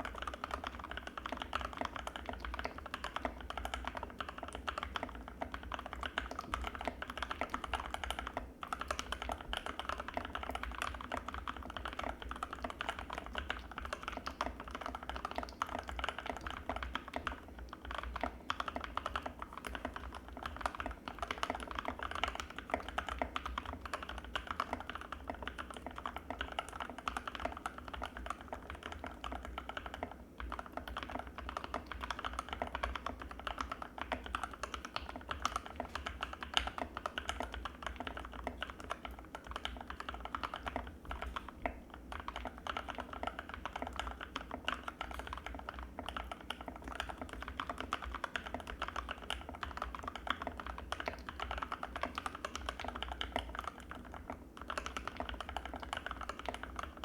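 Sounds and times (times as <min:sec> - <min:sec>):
fast typing on mechanical keyboard: 0:00.0 - 0:57.0.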